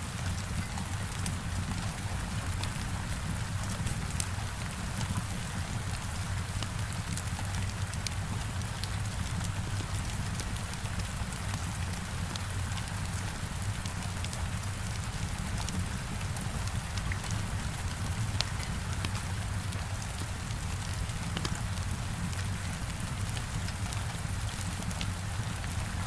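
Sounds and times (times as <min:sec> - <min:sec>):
heavy rain against window: 0:00.0 - 0:26.0
wood fire crackling: 0:00.2 - 0:26.0.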